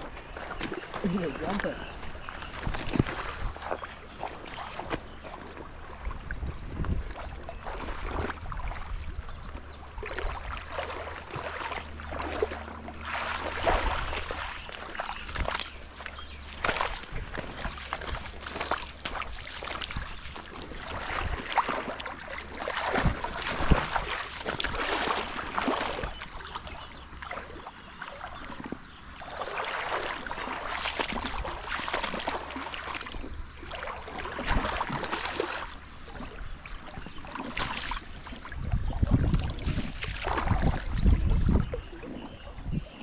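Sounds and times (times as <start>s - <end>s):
water splashing from wading: 0.0s - 43.0s.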